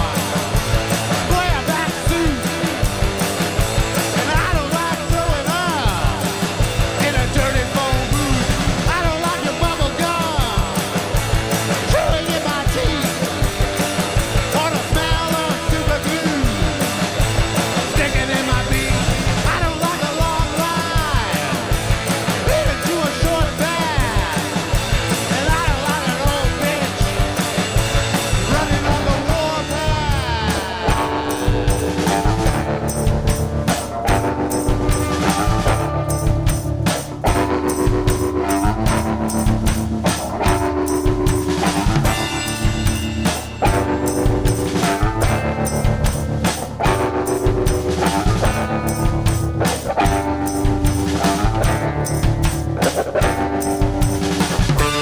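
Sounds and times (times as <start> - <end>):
rock band playing punk live: 0.0 - 55.0.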